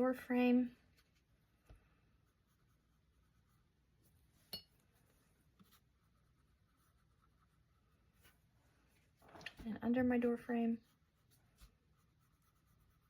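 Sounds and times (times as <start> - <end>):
paintbrush strokes on canvas: 0.4 - 9.2, 10.3 - 13.0.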